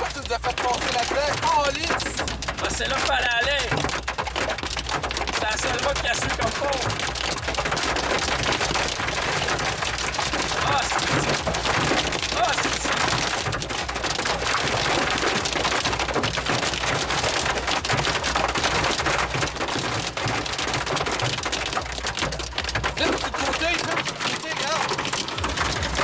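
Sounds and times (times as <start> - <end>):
hail and rain drumming on roof: 0.0 - 26.0.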